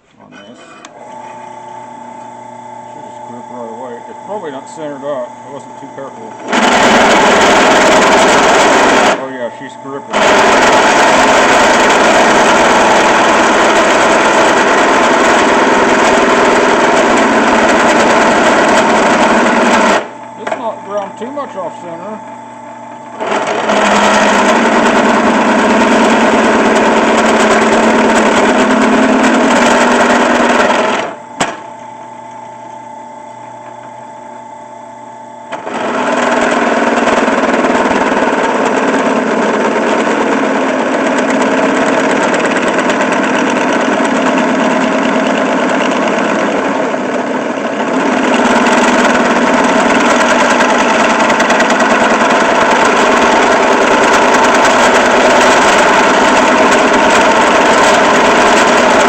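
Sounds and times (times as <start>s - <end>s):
drill press motor cutting steel: 0.3s - 32.7s, 35.4s - 59.0s.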